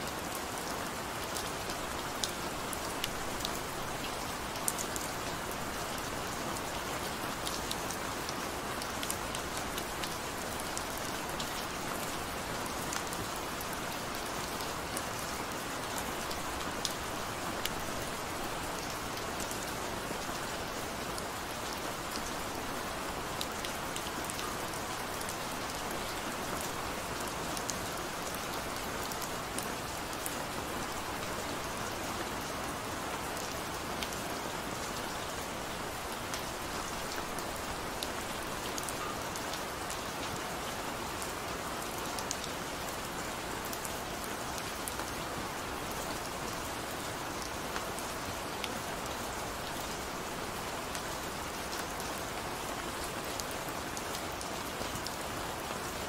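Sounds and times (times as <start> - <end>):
faint ticks of raindrops: 0.0 - 56.0
gentle rain falling: 0.0 - 56.0.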